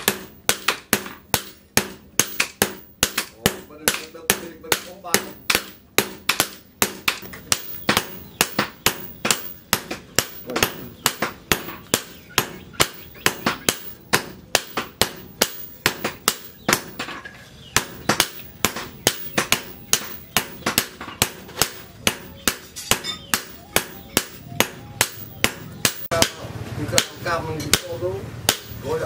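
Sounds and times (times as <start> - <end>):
hammer striking steel on anvil: 0.0 - 17.2, 17.8 - 26.4.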